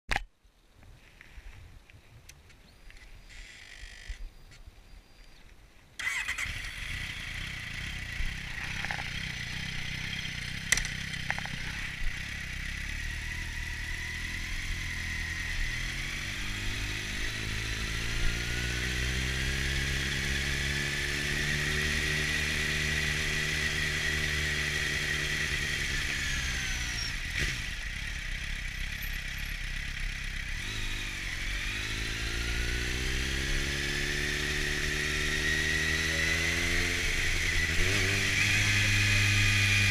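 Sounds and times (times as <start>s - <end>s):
motorcycle engine revving: 6.0s - 39.9s.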